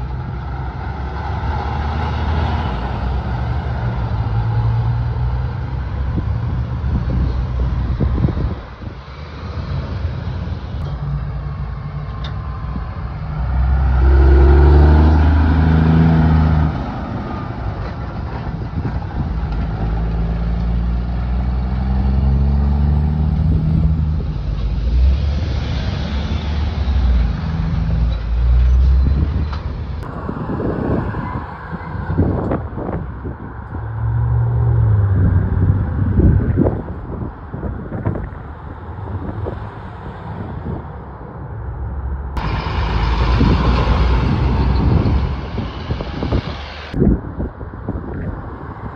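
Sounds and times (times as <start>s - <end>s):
wind buffeting microphone: 0.0s - 9.6s, 12.4s - 25.6s, 27.1s - 41.6s, 42.3s - 48.9s
diesel truck engine droning: 0.0s - 38.3s, 40.4s - 48.1s
trucks driving past: 0.0s - 48.9s.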